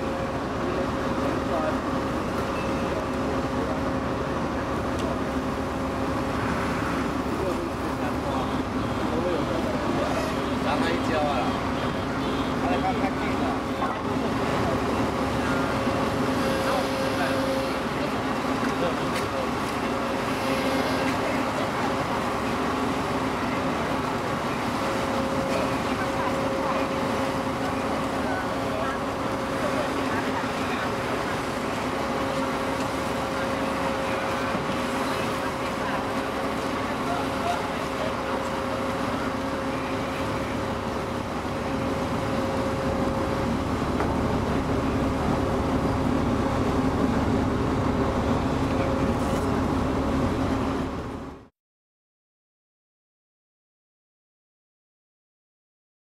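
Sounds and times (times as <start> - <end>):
crane machinery humming: 0.0 - 51.4
heavy engine droning: 0.0 - 51.5.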